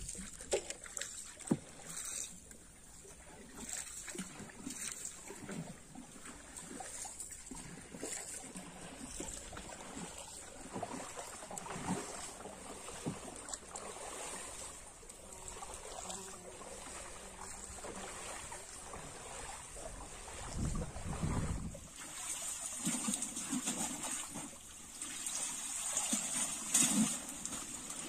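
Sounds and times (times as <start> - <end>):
water swishing along canoe hull: 0.0 - 28.0.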